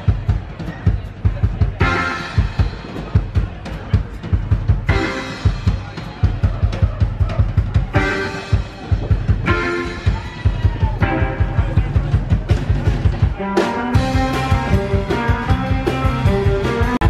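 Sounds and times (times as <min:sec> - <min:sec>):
drum kit fast beat: 0:00.0 - 0:17.0
electric guitars: 0:00.0 - 0:17.0.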